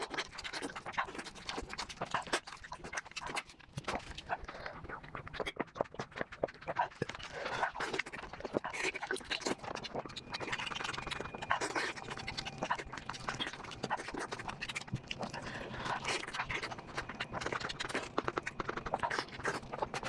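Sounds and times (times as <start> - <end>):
chewing and mouth sounds: 0.0 - 20.0.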